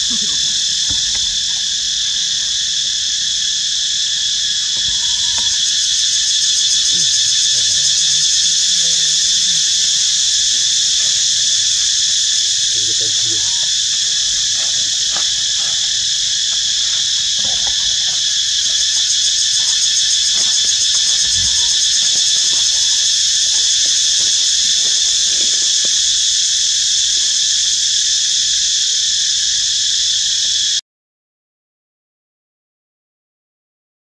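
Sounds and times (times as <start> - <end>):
insects shrilling: 0.0 - 30.8.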